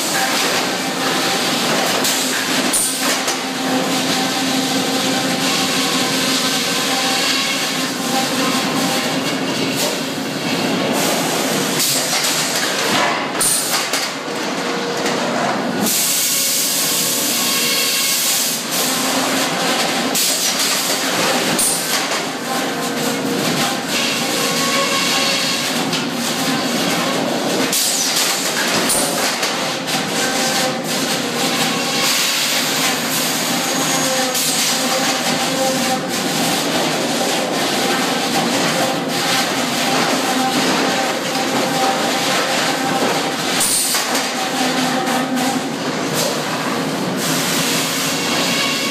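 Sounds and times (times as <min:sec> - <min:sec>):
sawmill machinery hum and hiss: 0:00.0 - 0:48.9.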